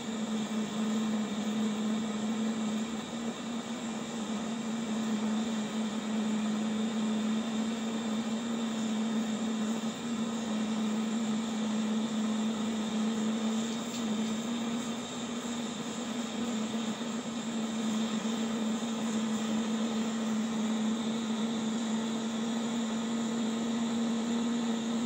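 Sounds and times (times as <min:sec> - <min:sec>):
blowtorch hissing: 0:00.0 - 0:25.0.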